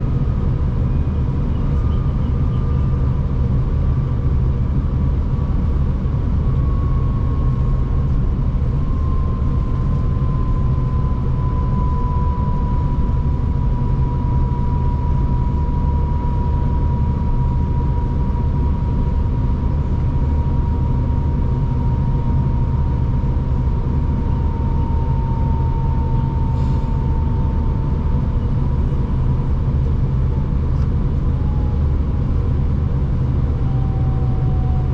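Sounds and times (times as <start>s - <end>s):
train rumbling on track: 0.0s - 34.9s.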